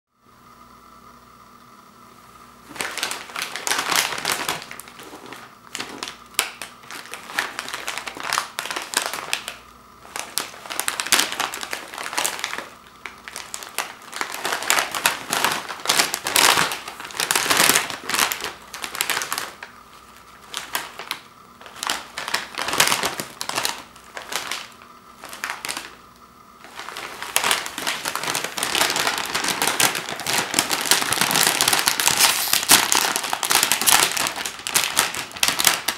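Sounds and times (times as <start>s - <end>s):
plastic chip bag crinkling: 2.6s - 35.9s.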